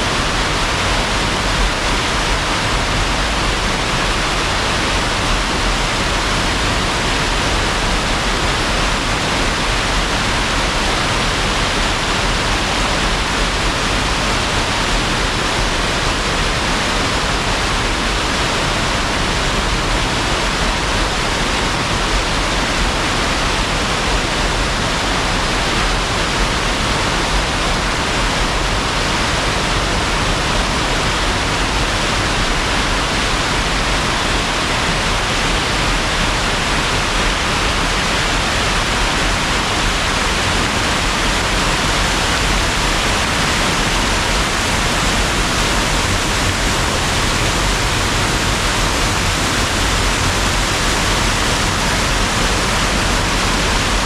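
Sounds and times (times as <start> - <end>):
water roaring over spillway: 0.0 - 54.0.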